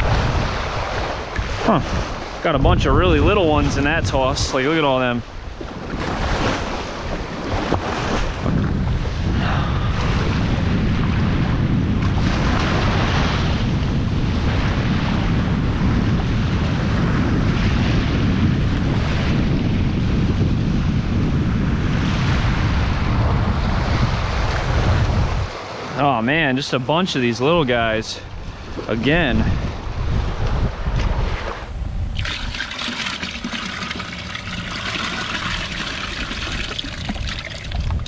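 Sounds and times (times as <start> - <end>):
small waves washing onto sand: 0.0 - 20.0, 22.1 - 38.0
wind buffeting microphone: 0.0 - 38.0.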